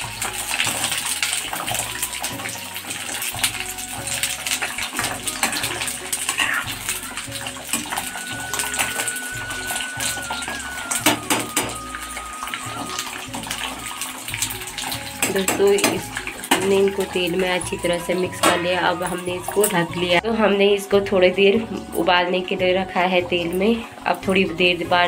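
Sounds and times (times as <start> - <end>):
food sizzling in hot oil: 0.0 - 20.2.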